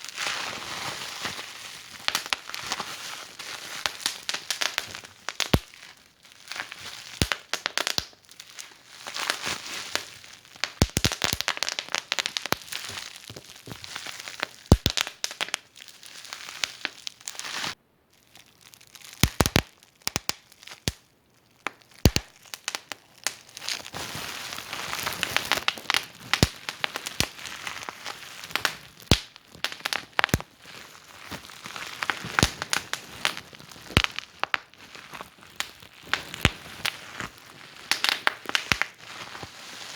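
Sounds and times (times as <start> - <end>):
fire crackling and popping: 1.9 - 2.7, 3.4 - 21.0, 21.6 - 39.5.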